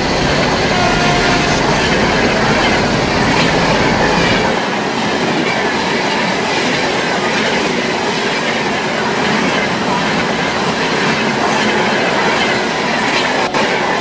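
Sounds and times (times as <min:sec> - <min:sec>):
wheel and rail noise with rattling: 0:00.0 - 0:14.0.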